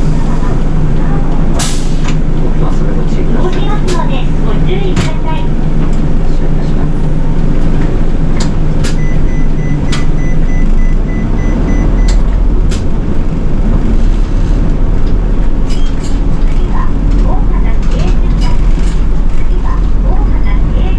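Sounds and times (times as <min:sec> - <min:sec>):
bus engine and road rumble: 0:00.0 - 0:20.9.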